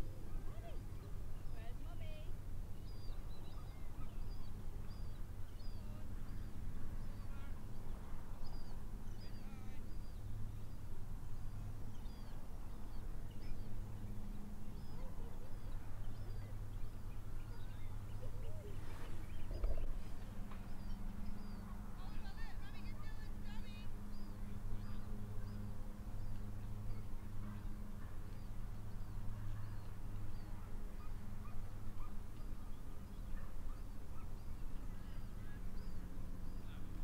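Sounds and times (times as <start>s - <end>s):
birds chirping: 0.0s - 37.0s
steady low hum: 0.0s - 37.0s.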